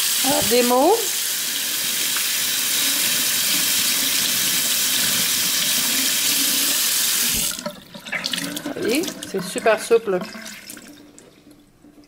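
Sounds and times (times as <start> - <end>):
faucet running into a steel sink: 0.0 - 11.3.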